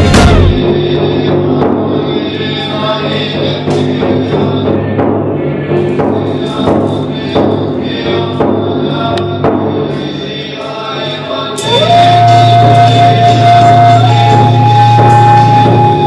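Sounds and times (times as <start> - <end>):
large drum beats: 0.0 - 10.1, 11.6 - 16.0
monks chanting in low voices: 0.3 - 16.0.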